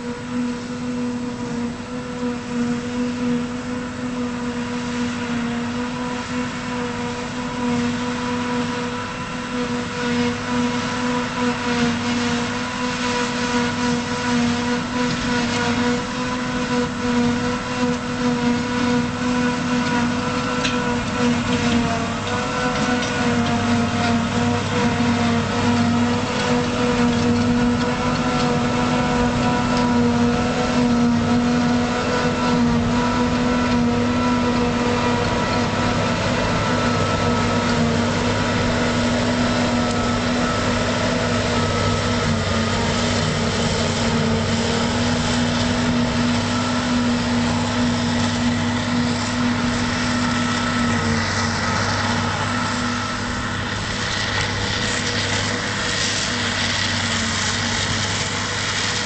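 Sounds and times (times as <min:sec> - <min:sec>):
harvester engine droning: 0:00.0 - 0:59.0.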